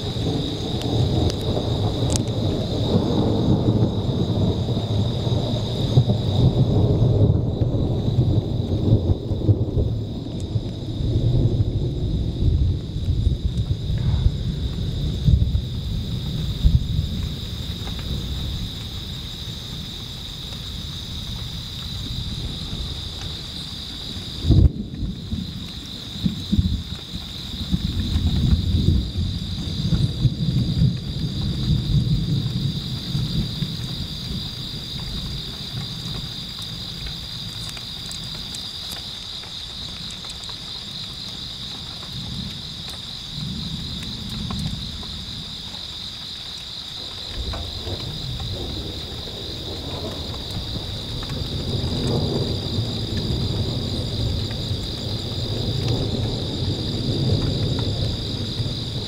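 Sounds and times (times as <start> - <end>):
insect chorus trilling: 0.0 - 59.0
thunder rumbling: 0.0 - 59.0.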